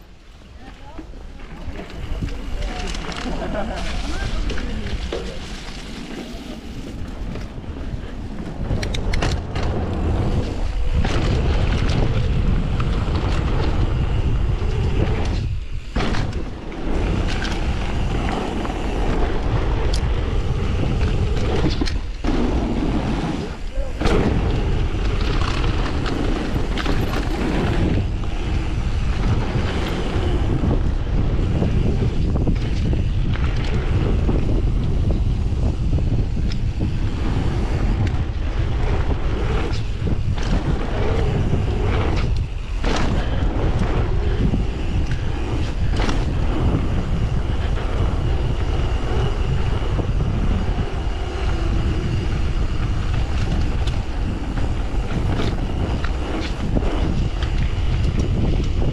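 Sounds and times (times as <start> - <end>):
bike tyre rumble on gravel: 0.0 - 58.9
wind buffeting microphone: 0.0 - 58.9
bike knocks and rattles: 0.7 - 58.9.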